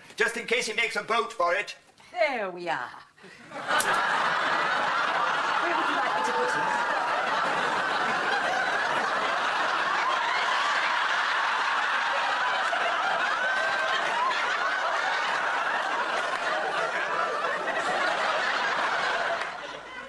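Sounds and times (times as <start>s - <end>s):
audience laughing: 3.3s - 20.0s.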